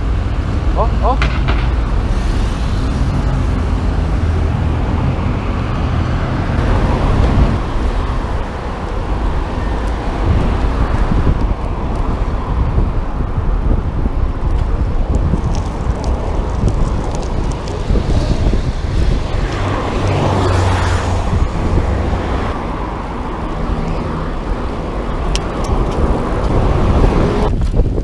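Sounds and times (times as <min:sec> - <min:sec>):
street traffic: 0:00.0 - 0:28.0
wind rumbling on microphone: 0:00.0 - 0:28.0.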